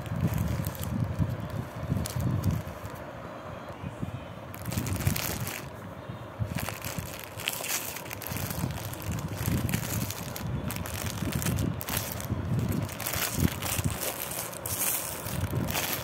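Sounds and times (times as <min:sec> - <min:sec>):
plastic packaging crinkling: 0:00.0 - 0:03.0, 0:04.5 - 0:05.7, 0:06.4 - 0:16.0.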